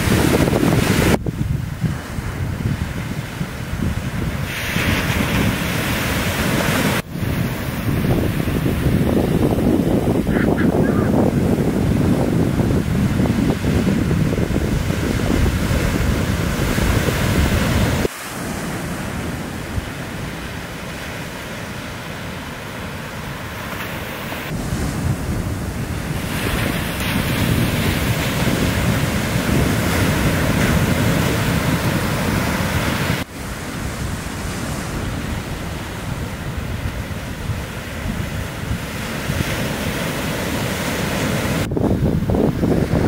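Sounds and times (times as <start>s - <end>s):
waves breaking on sand: 0.0s - 43.0s
wind on microphone: 0.0s - 43.0s.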